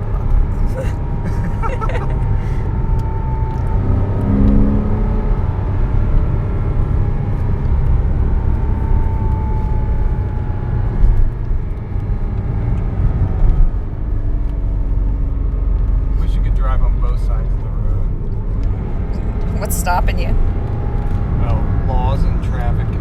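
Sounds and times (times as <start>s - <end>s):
car engine running: 0.0s - 23.0s
low road rumble: 0.0s - 23.0s.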